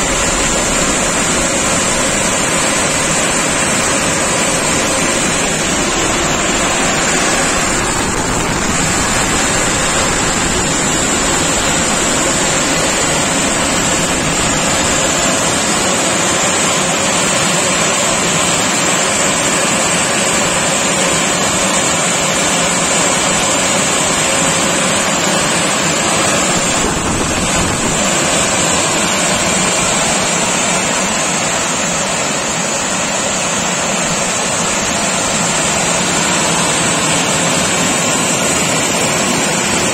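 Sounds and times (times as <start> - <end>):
car wash machine rushing: 0.0 - 39.9.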